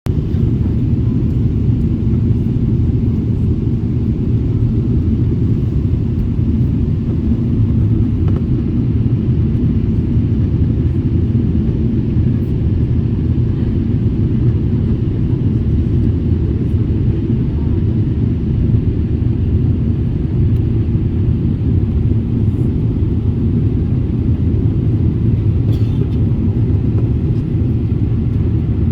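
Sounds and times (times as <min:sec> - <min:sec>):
airliner cabin engine rumble: 0:00.0 - 0:28.9.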